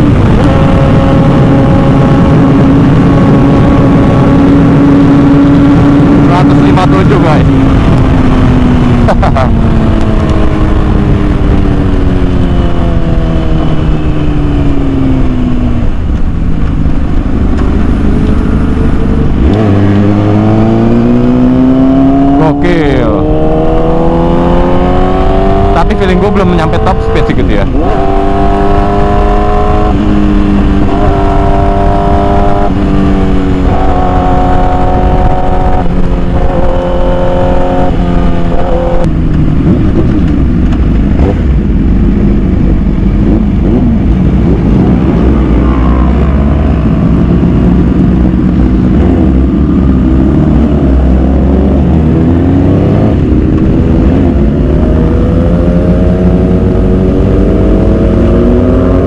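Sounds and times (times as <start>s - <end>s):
heavy wind rumble on microphone: 0.0s - 59.0s
motorcycle engine at speed: 0.0s - 59.0s.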